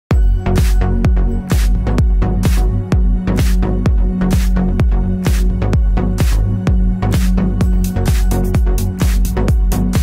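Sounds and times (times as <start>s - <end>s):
electronic dance music: 0.1s - 10.0s.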